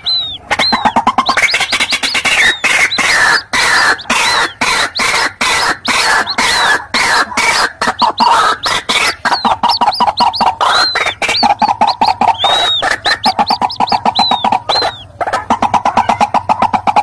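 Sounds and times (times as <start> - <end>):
waterhens calling: 0.0 - 17.0.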